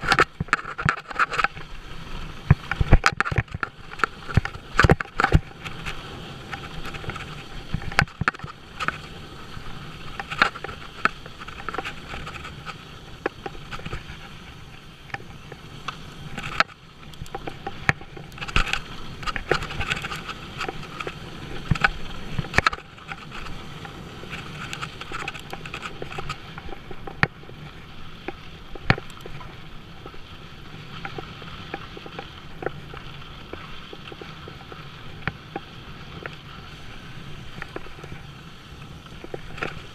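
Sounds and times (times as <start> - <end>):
bike clacking and rattling: 0.0 - 1.7, 2.4 - 36.7
bike tyres rumbling on gravel: 0.0 - 39.9.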